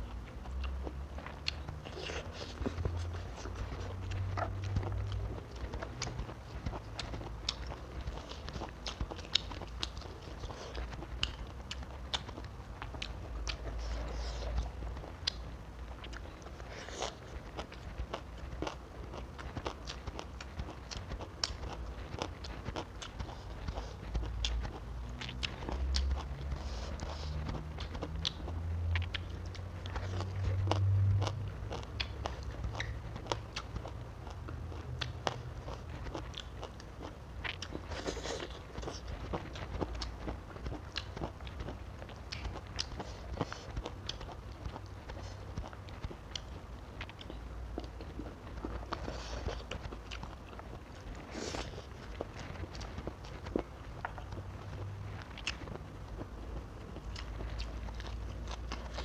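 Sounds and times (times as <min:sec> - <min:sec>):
crunchy chewing: 0:00.0 - 0:59.0
low steady hum: 0:00.0 - 0:59.0.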